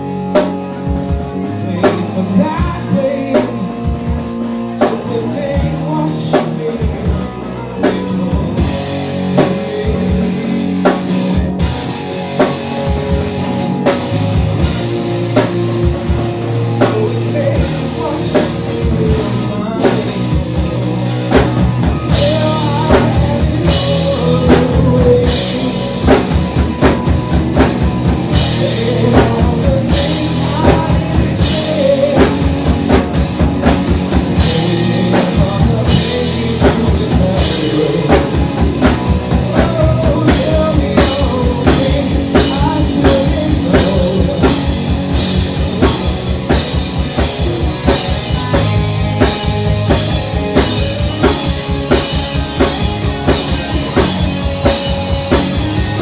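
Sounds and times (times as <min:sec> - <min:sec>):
live rock band: 0:00.0 - 0:56.0.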